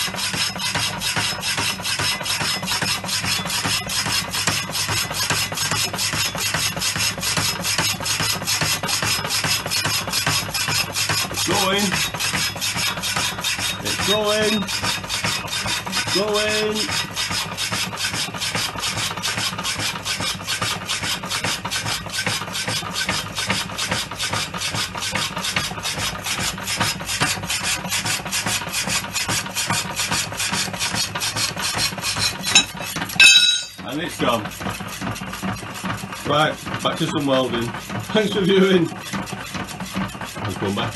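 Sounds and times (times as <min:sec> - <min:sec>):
power hacksaw cutting steel: 0:00.0 - 0:40.9.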